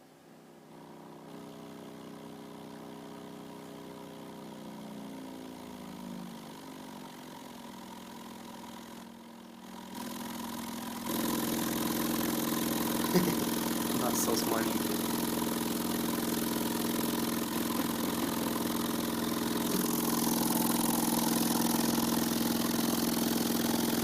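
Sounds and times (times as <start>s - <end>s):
small pump motor humming: 0.0s - 24.0s.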